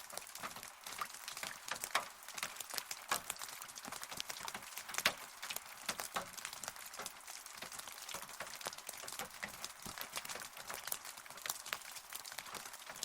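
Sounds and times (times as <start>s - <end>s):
raindrops tapping hard surface: 0.0s - 13.0s
steady rain hiss: 0.0s - 13.0s.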